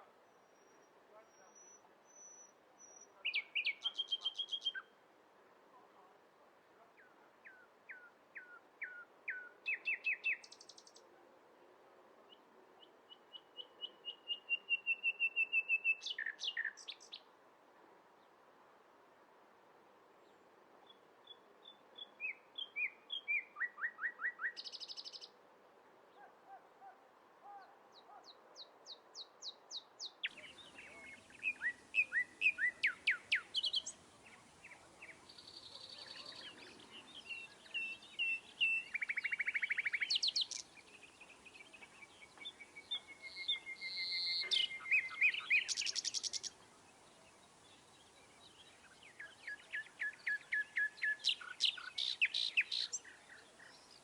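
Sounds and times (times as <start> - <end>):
songbirds singing and chirping: 0.0 - 5.0, 6.9 - 11.1, 12.2 - 17.3, 20.2 - 25.4, 27.9 - 54.0
background hiss: 0.0 - 23.5, 28.7 - 54.0.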